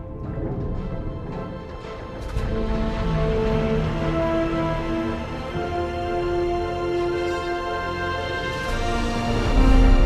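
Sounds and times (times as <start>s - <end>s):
theme music with held notes: 0.0s - 10.0s.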